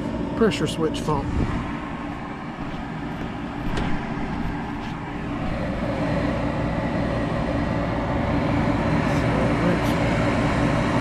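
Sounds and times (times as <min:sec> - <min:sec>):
inducer motor humming: 0:00.0 - 0:11.0.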